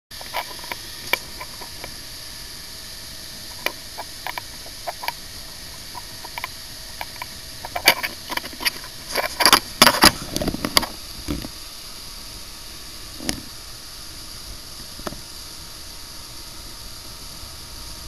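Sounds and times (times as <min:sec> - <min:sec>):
motorboat engine hum: 0:00.2 - 0:18.0.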